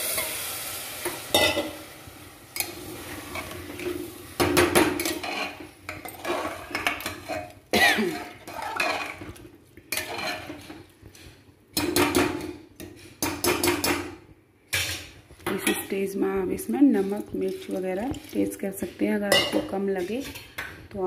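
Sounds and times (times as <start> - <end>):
metal ladle scraping pot: 2.6 - 14.0, 14.7 - 20.7.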